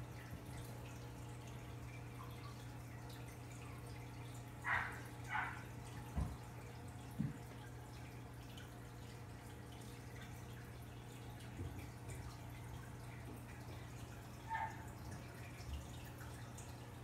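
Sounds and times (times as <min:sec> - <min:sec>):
aquarium water trickling: 0:00.0 - 0:17.0.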